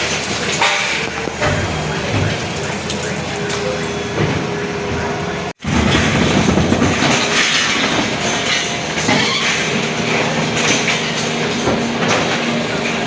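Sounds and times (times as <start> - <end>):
concrete rattling and crunching: 0.0 - 13.0
heavy machinery engine: 0.0 - 13.0.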